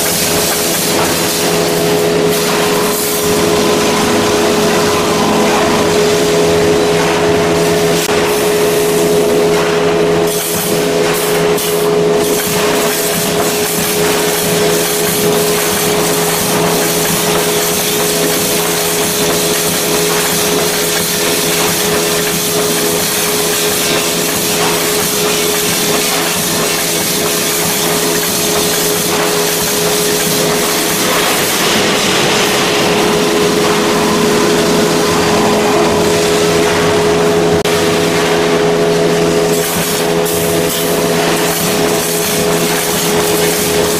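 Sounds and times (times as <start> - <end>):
welding machine running: 0.0 - 43.9.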